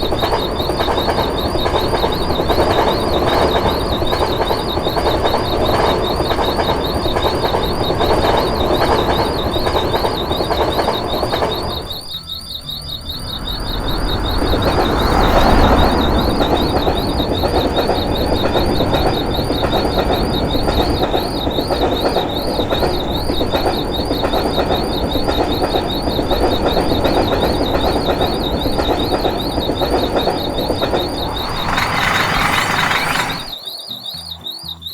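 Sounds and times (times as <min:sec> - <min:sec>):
train wheels rushing on rails: 0:00.0 - 0:12.1, 0:13.1 - 0:33.6
crossing warning signal warbling: 0:00.0 - 0:34.9.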